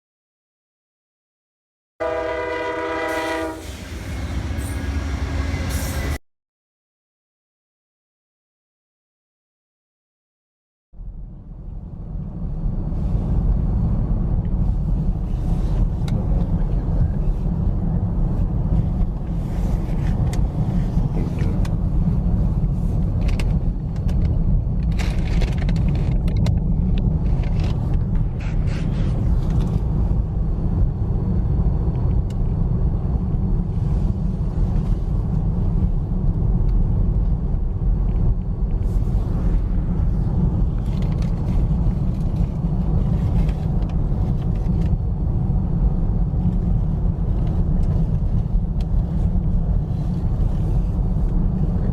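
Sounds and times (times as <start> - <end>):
vehicle rumble: 2.0 - 6.2, 11.0 - 51.9.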